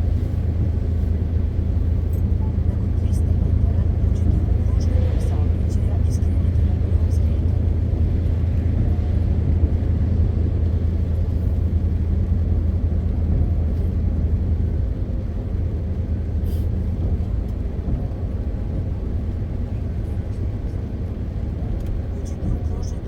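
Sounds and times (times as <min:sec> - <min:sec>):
road noise: 0:00.0 - 0:23.0
truck diesel engine droning: 0:00.0 - 0:23.0.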